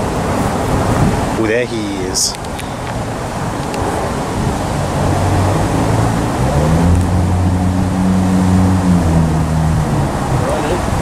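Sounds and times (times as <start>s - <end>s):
engine humming: 0.0s - 11.0s
outdoor background noise: 0.0s - 11.0s.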